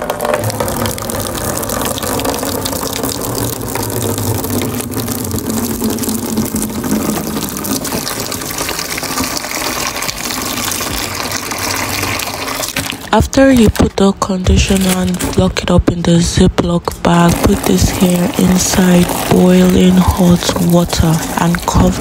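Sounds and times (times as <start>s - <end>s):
tap water gushing into bucket: 0.0s - 22.0s.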